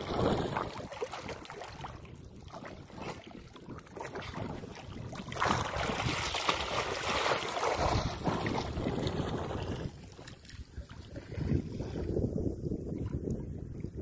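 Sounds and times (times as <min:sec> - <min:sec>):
water splashing and churning: 0:00.0 - 0:14.0.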